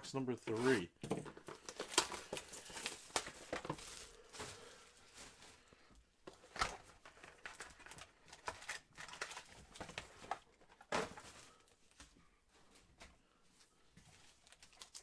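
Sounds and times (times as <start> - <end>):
wrappers rustling and crinkling: 0.4 - 15.0.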